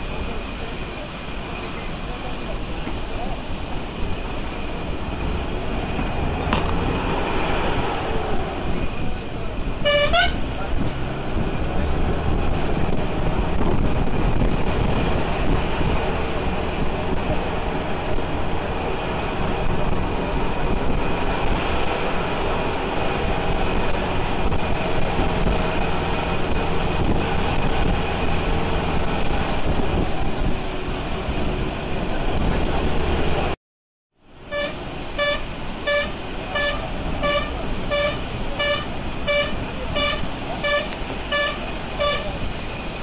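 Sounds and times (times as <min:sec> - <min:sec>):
vehicle cabin road noise: 0:00.0 - 0:33.6, 0:34.2 - 0:43.0.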